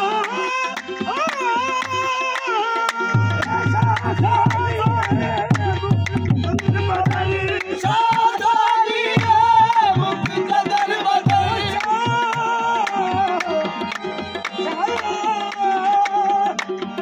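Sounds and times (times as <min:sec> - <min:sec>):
tabla drumming: 0:00.0 - 0:17.0.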